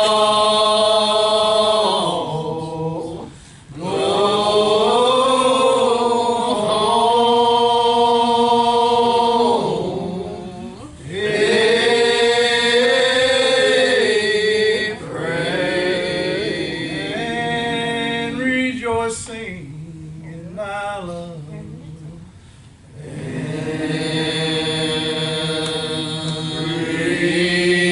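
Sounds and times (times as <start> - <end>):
voices singing a church song: 0.0 - 20.1, 22.9 - 27.9.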